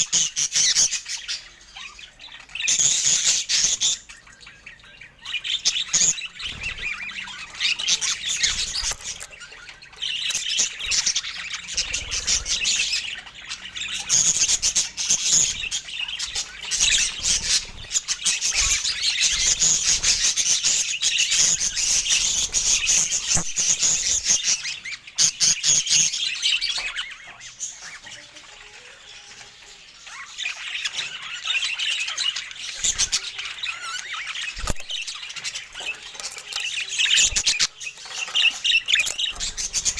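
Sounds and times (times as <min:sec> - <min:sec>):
parakeets chattering and squawking: 0:00.0 - 0:39.9.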